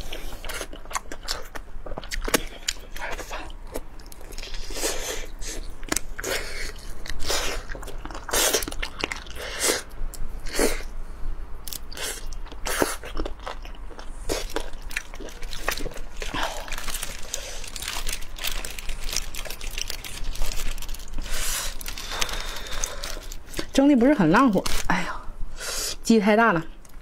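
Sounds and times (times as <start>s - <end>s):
biting and chewing: 0.0s - 10.9s, 11.7s - 23.8s.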